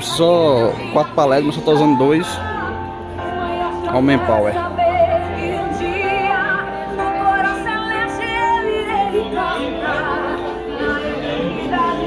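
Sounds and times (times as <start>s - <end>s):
musical accompaniment: 0.0s - 12.0s
woman singing with vibrato: 0.0s - 12.0s.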